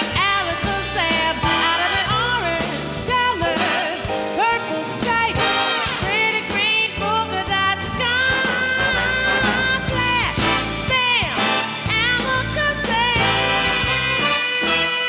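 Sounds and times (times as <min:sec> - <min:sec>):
woman singing into a microphone: 0:00.0 - 0:05.5, 0:06.1 - 0:13.8
swing band with brass playing: 0:00.0 - 0:15.0.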